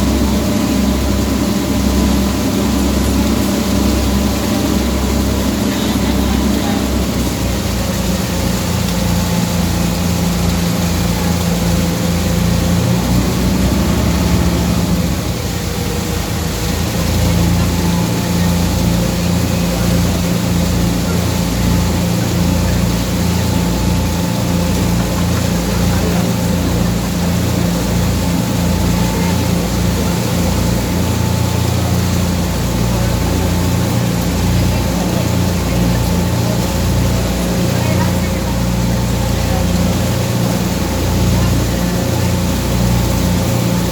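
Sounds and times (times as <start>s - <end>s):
boat engine humming: 0.0s - 43.9s.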